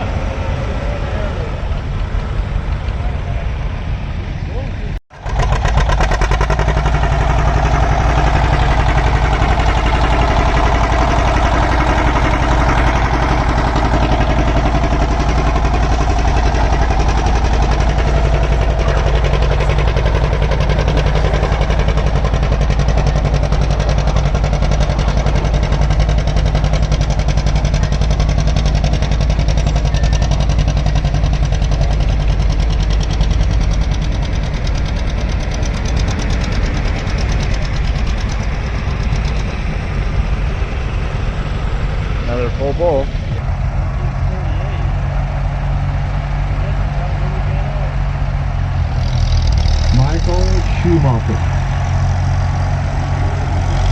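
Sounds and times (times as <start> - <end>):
tractor engine running under load: 5.1 - 53.9.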